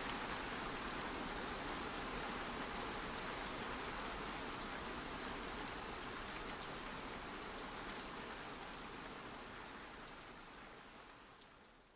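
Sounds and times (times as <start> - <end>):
steady rain falling: 0.0 - 11.9.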